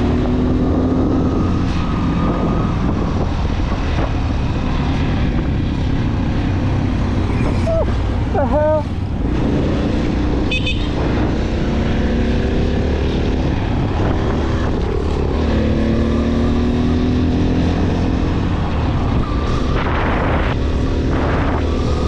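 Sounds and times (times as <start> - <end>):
motorcycle engine accelerating: 0.0 - 22.0
wind rush on microphone: 0.0 - 22.0.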